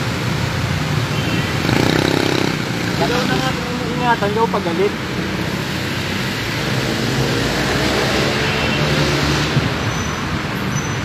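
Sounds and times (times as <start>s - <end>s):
road traffic rush: 0.0s - 11.0s.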